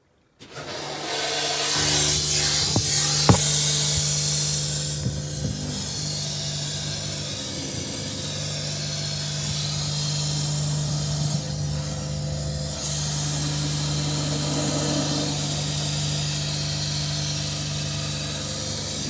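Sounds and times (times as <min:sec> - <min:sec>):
steady low hum: 0:01.8 - 0:19.0.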